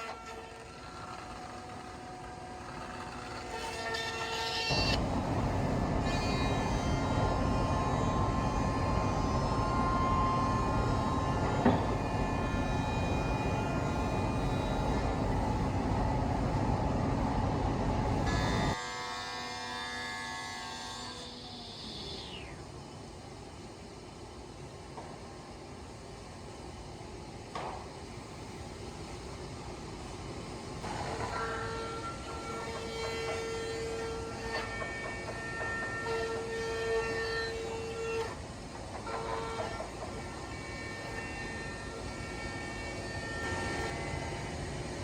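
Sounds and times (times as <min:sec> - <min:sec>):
cnc router machining rumble: 0:00.0 - 0:23.2, 0:30.3 - 0:45.0
high steady machine whine: 0:00.0 - 0:45.0.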